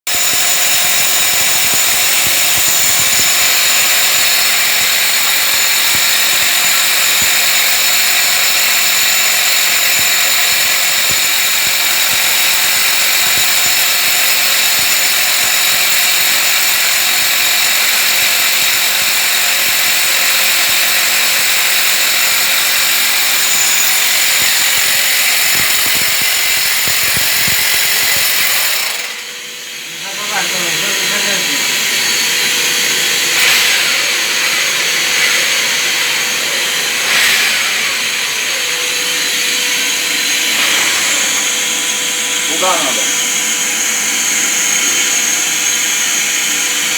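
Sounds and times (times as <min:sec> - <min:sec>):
power drill boring into wall: 0:00.1 - 0:46.9.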